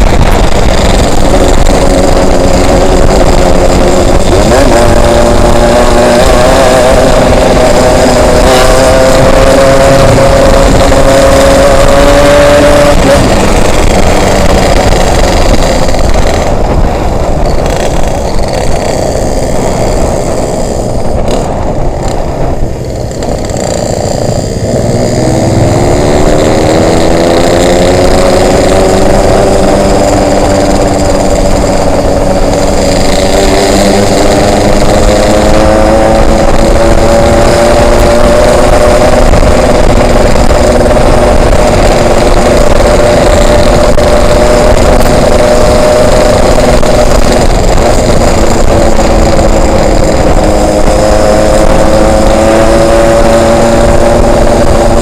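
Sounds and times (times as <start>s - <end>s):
two-stroke motorcycle engine: 0.0s - 55.0s
wind rushing over microphone: 0.0s - 55.0s.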